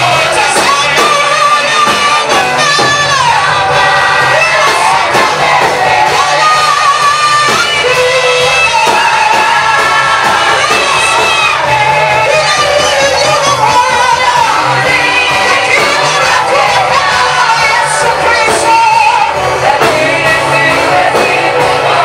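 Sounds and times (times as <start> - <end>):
band accompaniment with steady beat: 0.0 - 22.0
singers performing a worship song: 0.0 - 22.0.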